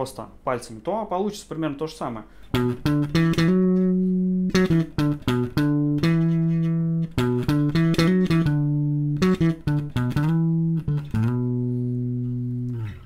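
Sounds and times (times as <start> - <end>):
bass guitar melody fingerstyle: 2.4 - 13.0.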